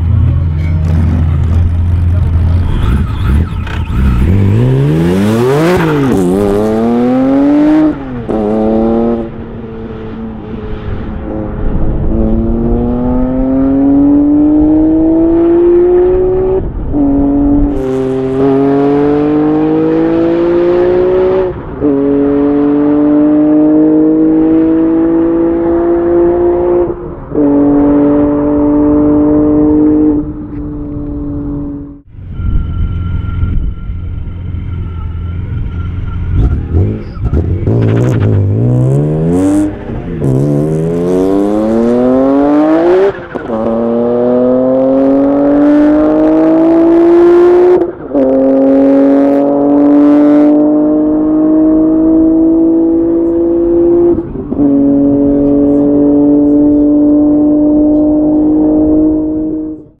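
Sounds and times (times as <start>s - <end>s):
car engine accelerating: 0.0s - 60.0s.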